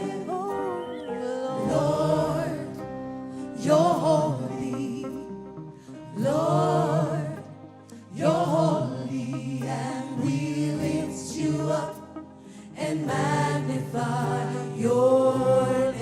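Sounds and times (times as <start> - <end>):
gospel worship music: 0.0 - 16.0.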